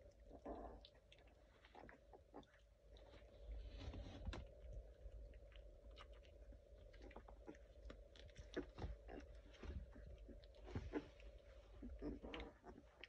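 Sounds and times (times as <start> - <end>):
puppies chewing: 0.0 - 13.0.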